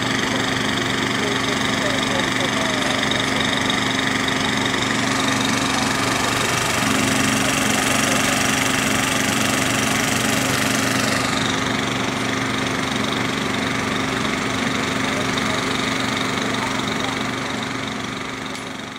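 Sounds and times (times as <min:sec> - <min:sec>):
engine idling: 0:00.0 - 0:18.9.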